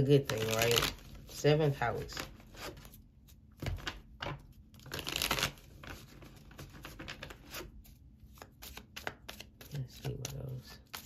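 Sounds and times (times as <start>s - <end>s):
cards shuffling: 0.2s - 1.3s, 2.0s - 11.0s.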